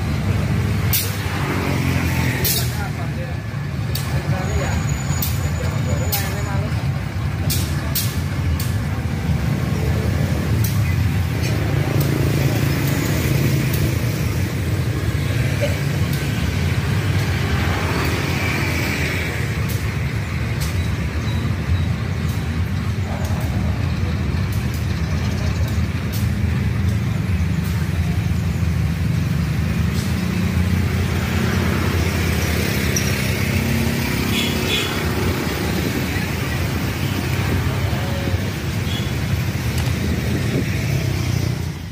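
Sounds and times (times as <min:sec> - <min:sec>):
diesel locomotive engine drone: 0:00.0 - 0:41.9.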